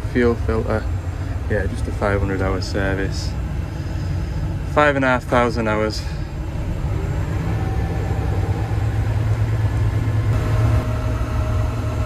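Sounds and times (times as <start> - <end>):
diesel engine idling: 0.0 - 12.0
faint steady whine: 0.0 - 12.0.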